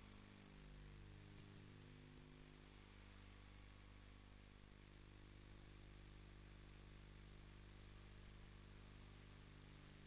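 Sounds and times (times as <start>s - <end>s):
electrical hum with hiss: 0.0s - 10.0s.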